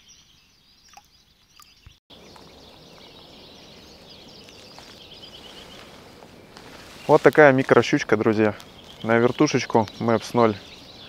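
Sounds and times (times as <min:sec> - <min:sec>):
small birds chirping: 0:00.0 - 0:11.0
steady outdoor hiss: 0:02.1 - 0:11.0.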